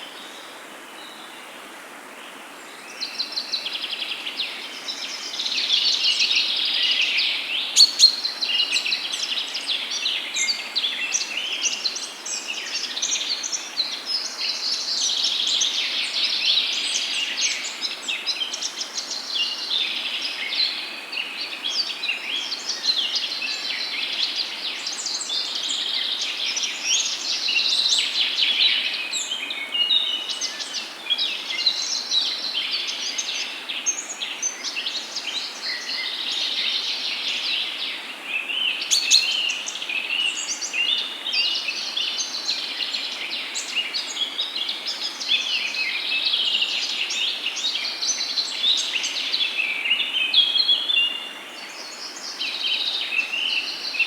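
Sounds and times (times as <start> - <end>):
faint background hiss: 0.0 - 54.0
songbirds chirping and trilling: 3.1 - 54.0.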